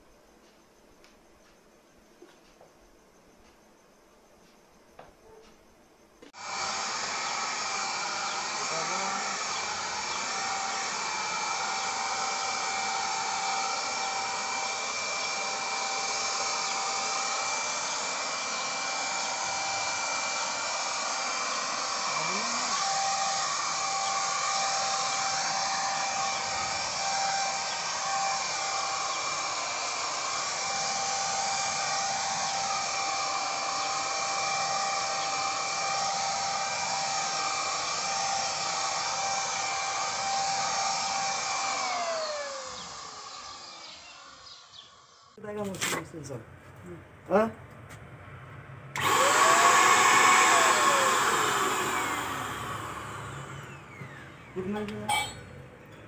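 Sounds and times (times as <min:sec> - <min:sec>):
paint sprayer motor whine: 0:06.2 - 0:45.4, 0:48.9 - 0:56.0.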